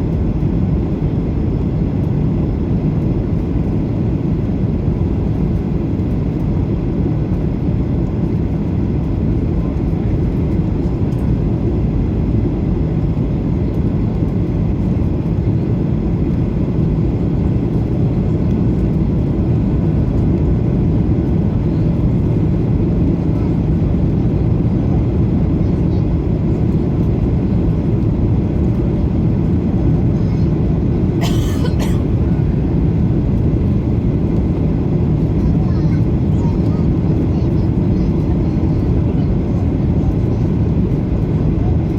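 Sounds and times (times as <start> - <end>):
airliner cabin engine roar: 0.0 - 41.9.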